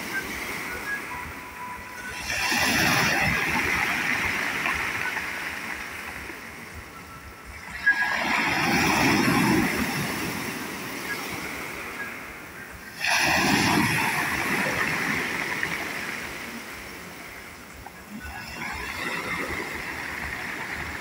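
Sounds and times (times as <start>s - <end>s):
waves breaking on pebble beach: 2.0s - 6.5s, 7.5s - 21.0s.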